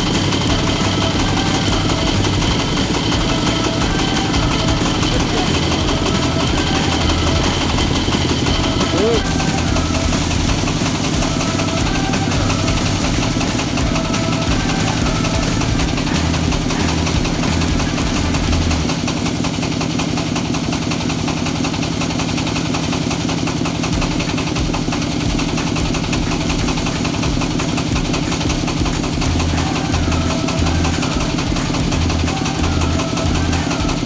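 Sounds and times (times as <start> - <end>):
low throbbing pulse: 0.0 - 19.1, 23.9 - 34.0
diesel engine running: 0.0 - 34.0.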